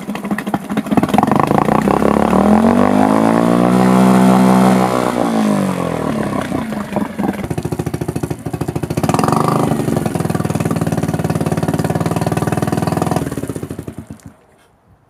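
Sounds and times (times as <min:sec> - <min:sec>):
outboard motor running: 0:00.0 - 0:14.5.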